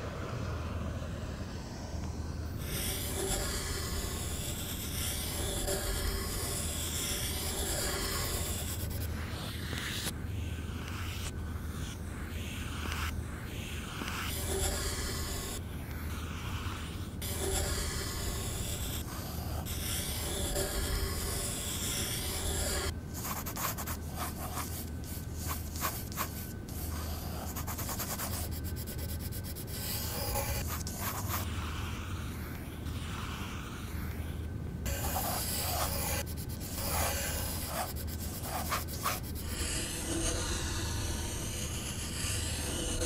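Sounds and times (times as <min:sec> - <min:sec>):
steady low hum: 0:00.0 - 0:43.0
pencil scratching on paper: 0:02.6 - 0:43.0.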